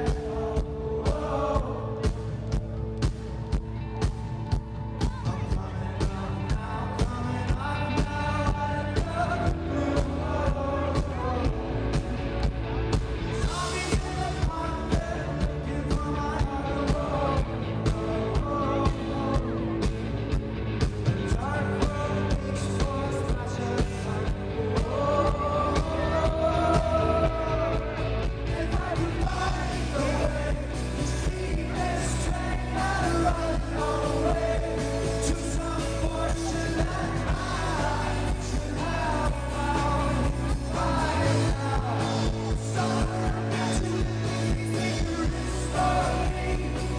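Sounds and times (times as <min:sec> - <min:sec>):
lead singer singing: 0:00.0 - 0:20.3, 0:21.1 - 0:46.9
live rock band playing: 0:00.0 - 0:46.9.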